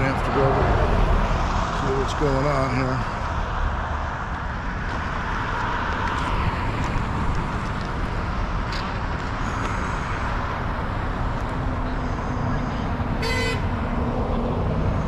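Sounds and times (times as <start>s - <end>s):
traffic noise: 0.0s - 15.0s.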